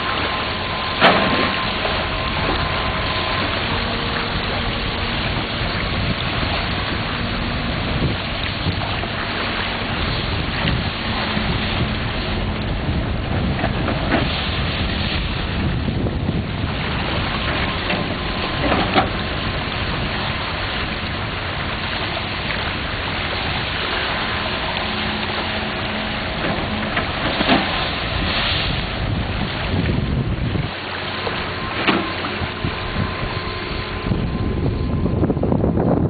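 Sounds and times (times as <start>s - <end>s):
water rushing out: 0.0s - 35.2s
wind buffeting microphone: 0.0s - 36.0s.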